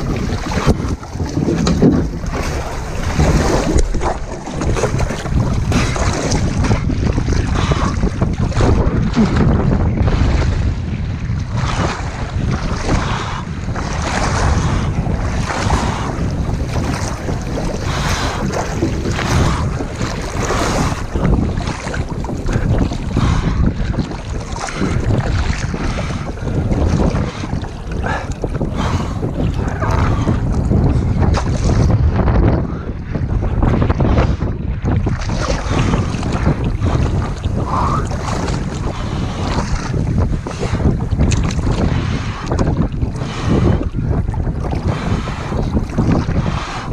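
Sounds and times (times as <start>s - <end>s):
rushing splashing water: 0.0s - 32.2s, 33.2s - 46.9s
wind buffeting microphone: 0.0s - 46.9s.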